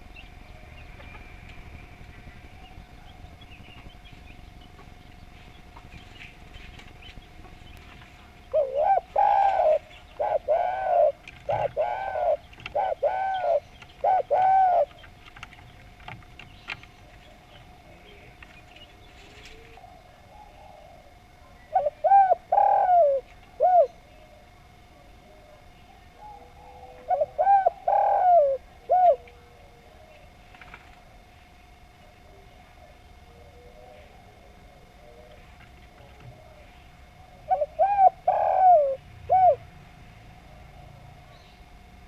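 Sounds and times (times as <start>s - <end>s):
dove cooing: 0.0s - 42.0s.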